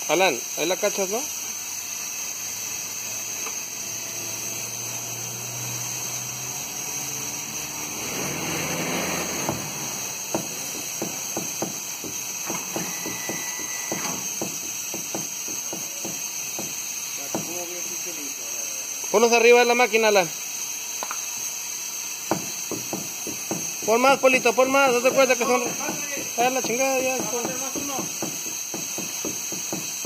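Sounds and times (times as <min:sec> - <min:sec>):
rush of steam: 0:00.0 - 0:30.0
steam hissing: 0:00.0 - 0:30.0.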